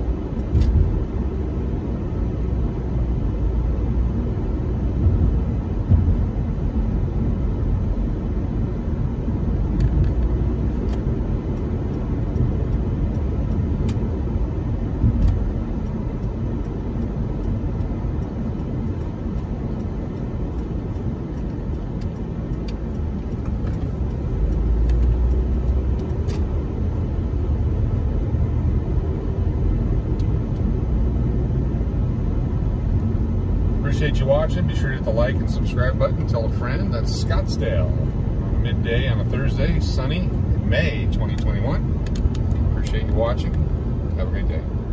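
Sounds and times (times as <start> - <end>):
engine and tyres rumbling: 0.0 - 44.9.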